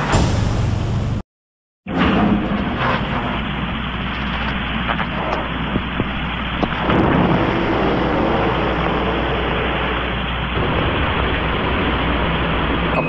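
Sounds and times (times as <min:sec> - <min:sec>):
rocket engine roar: 0:01.9 - 0:13.0.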